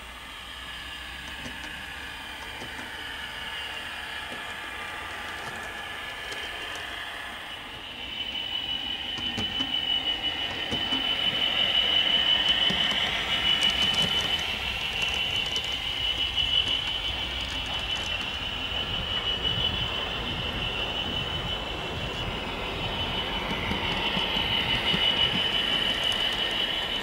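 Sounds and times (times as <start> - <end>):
model train whine: 0.0 - 27.0.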